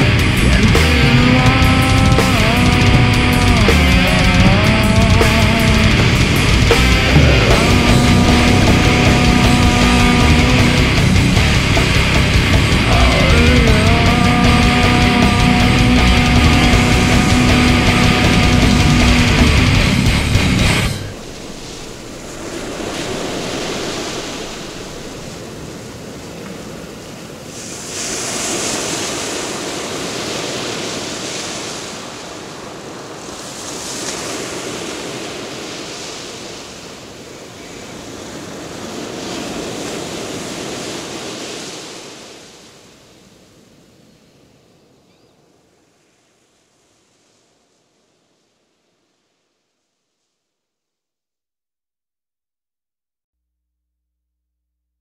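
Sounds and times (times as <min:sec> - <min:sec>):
ocean waves washing in: 0:00.0 - 0:50.7.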